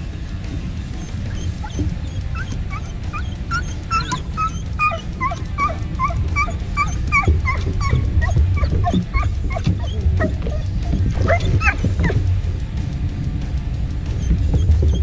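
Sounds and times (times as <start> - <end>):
steady low rumble: 0.0 - 15.0
dog whining in high yips: 1.0 - 12.2, 14.2 - 15.0.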